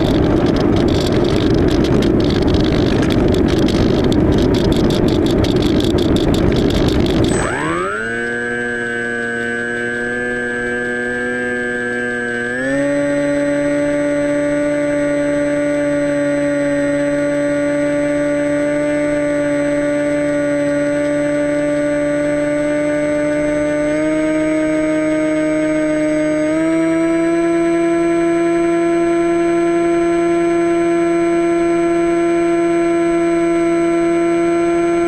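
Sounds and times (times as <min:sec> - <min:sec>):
electric motor and propeller whine: 0:00.0 - 0:35.0.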